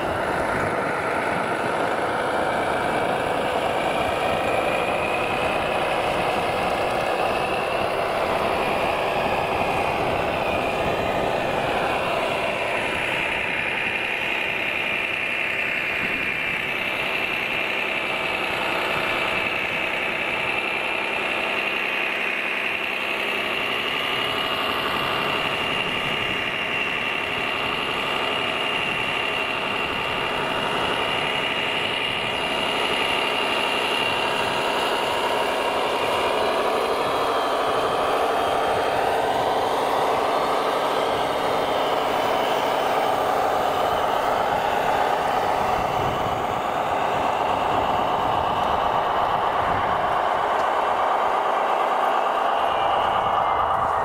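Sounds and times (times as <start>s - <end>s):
rc truck motor whine: 0.0s - 54.0s.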